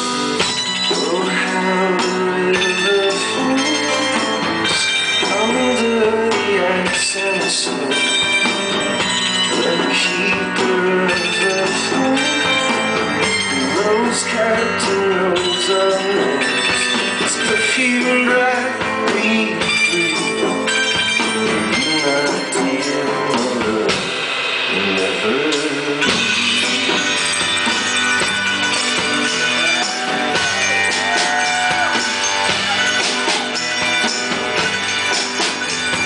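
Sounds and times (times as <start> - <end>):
live folk band playing: 0.0 - 36.0.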